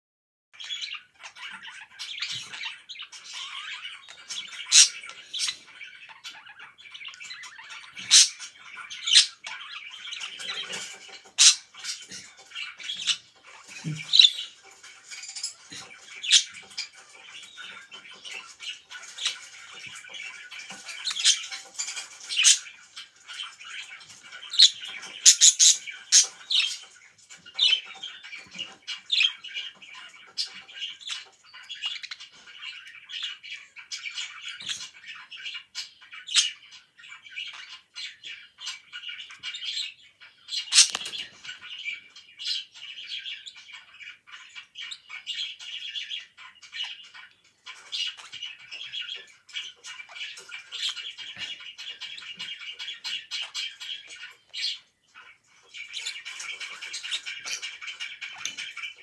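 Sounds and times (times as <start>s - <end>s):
budgerigar chattering and warbling: 0.6s - 59.0s.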